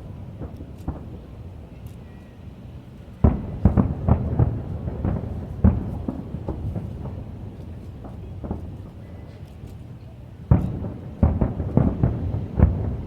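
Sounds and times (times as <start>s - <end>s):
fainter fireworks bangs: 0.0s - 13.0s
fireworks booming: 0.0s - 13.0s.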